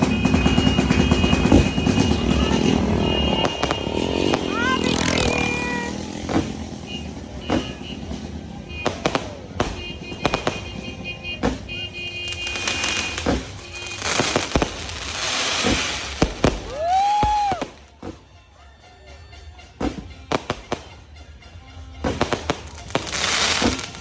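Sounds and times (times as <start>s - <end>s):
fireworks whistles: 0.0s - 18.2s, 22.0s - 24.0s
fireworks crackling: 0.0s - 18.3s, 19.6s - 21.1s, 22.0s - 24.0s
fireworks bangs: 0.0s - 18.4s, 19.7s - 21.1s, 22.0s - 24.0s.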